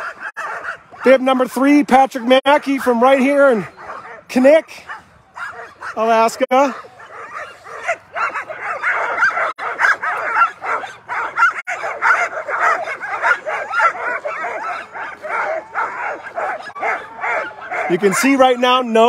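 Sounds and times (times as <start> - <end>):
sled dogs barking and yipping: 0.0 - 19.0.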